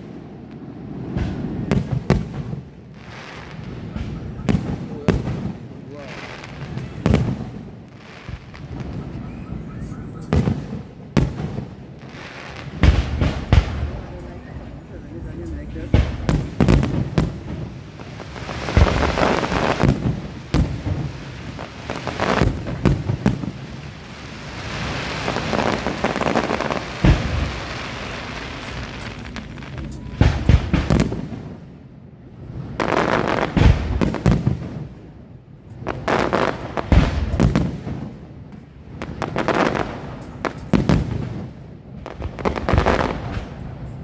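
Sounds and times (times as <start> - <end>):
fireworks bursting in sharp bangs: 0.0 - 31.8, 32.4 - 43.9
fireworks crackling: 0.0 - 44.0.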